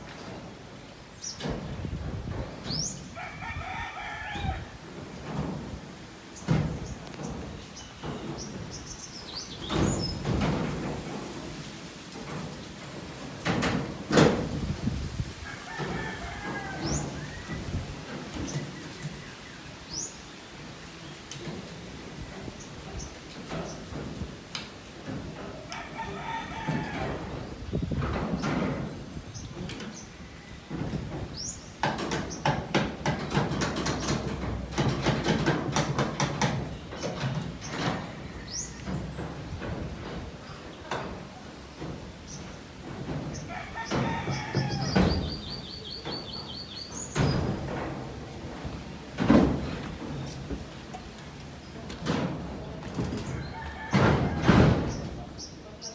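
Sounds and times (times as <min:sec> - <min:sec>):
building work knocking and clattering: 0:00.0 - 0:20.1, 0:20.7 - 0:55.9.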